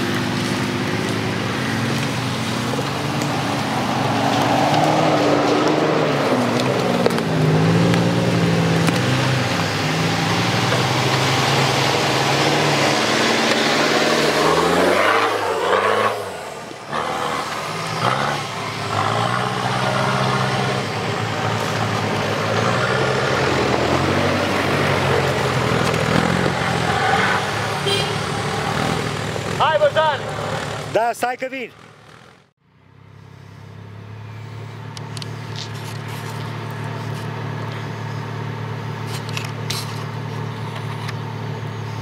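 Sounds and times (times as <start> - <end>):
off-road engines revving: 0.0 - 42.0.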